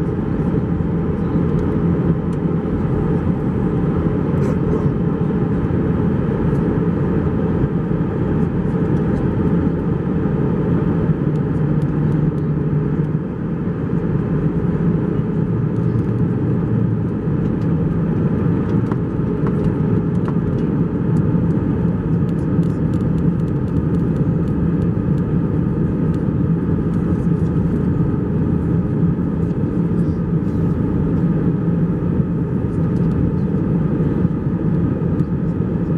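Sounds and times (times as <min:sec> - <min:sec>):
jet engines droning: 0:00.0 - 0:35.9
steady hum tones: 0:00.0 - 0:35.9.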